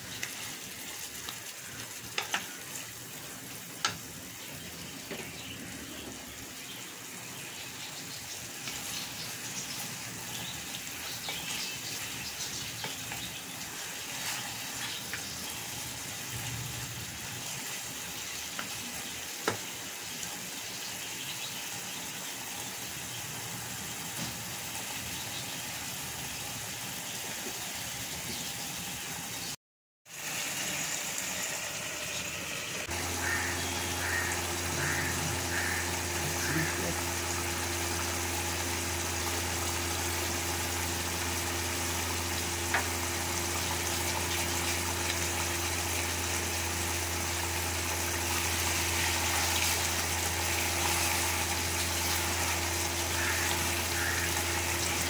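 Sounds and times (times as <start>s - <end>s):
curry sizzling and bubbling: 0.0s - 55.0s.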